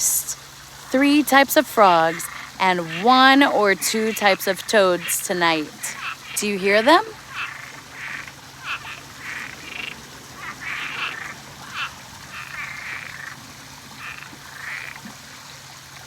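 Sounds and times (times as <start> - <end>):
frogs calling: 0.0 - 13.4, 14.0 - 15.0.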